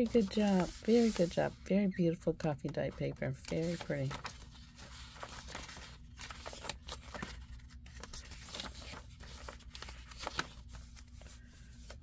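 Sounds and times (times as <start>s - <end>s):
paper pages rustling and flapping: 0.0s - 1.4s, 3.0s - 12.0s.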